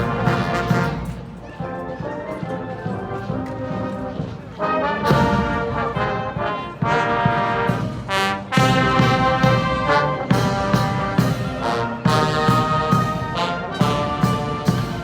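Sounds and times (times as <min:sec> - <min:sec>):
military band playing a march: 0:00.0 - 0:15.0.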